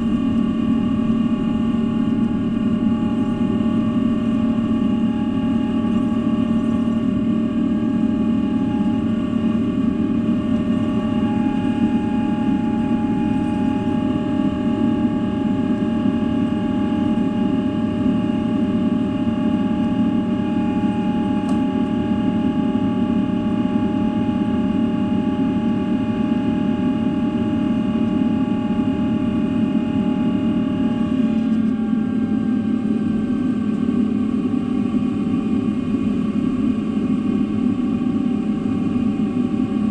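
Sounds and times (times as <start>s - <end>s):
jet engine cabin rumble: 0.0s - 39.9s
steady engine whine: 0.0s - 39.9s.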